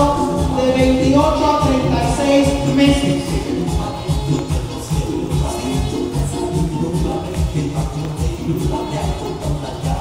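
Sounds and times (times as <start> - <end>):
latin music with steady beat: 0.0 - 10.0.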